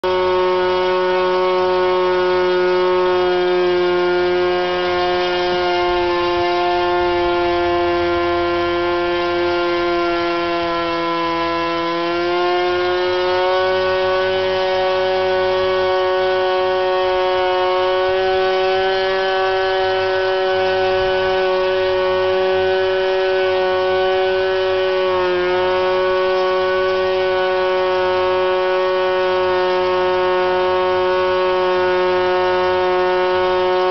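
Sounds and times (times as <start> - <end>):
high-pitched model engine buzz: 0.0 - 33.9.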